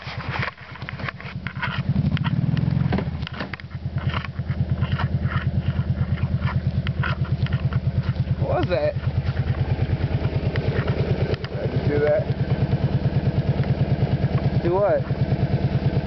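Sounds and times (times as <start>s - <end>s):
sharp clicks and knocks: 0.0s - 15.3s
atv engine running and revving: 0.0s - 16.0s.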